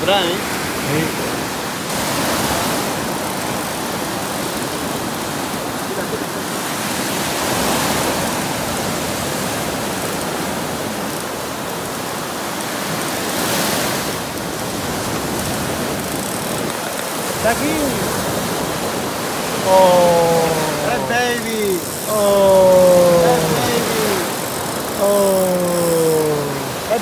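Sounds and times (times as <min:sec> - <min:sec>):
surf breaking on a beach: 0:00.0 - 0:27.0.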